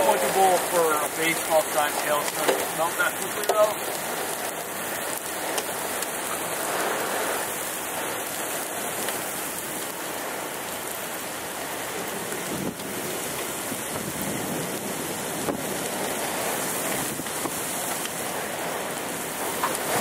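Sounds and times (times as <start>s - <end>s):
rain pattering on car roof: 0.0s - 20.0s.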